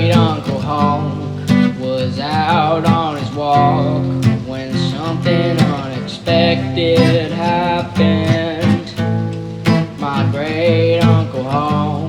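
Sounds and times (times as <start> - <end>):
song with acoustic guitar: 0.0 - 12.0.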